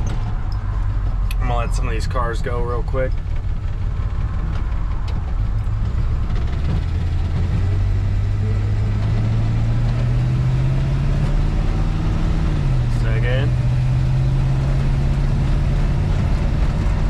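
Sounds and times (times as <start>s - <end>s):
pickup truck engine rising in pitch: 0.0s - 17.0s.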